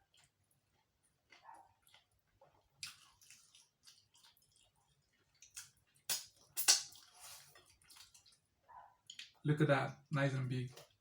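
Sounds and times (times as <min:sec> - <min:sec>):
wet chewing and lip smacks: 0:00.0 - 0:09.4.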